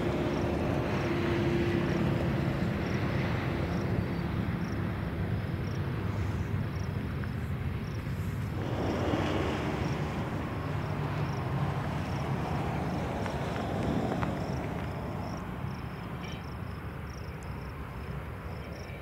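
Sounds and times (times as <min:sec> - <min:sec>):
freight train wheels rumbling: 0:00.0 - 0:16.8.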